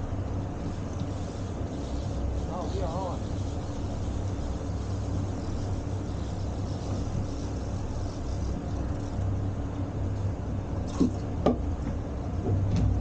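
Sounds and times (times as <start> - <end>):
outboard engines droning: 0.0 - 13.0.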